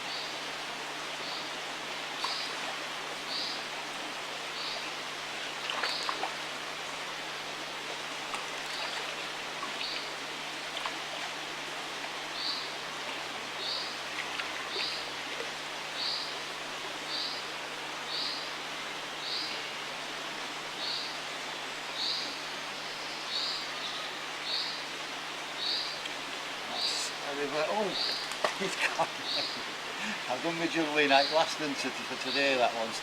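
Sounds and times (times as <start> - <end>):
river water running: 0.0 - 33.0.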